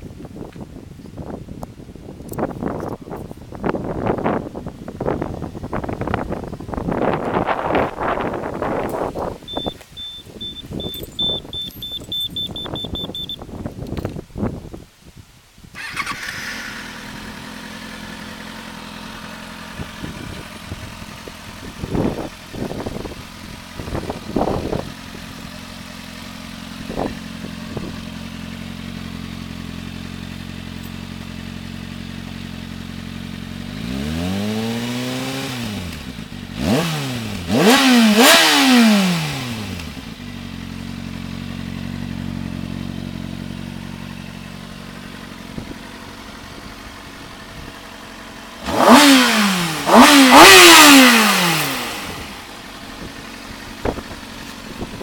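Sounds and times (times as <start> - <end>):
motorcycle engine idling and revving: 0.0 - 14.8, 15.6 - 55.0.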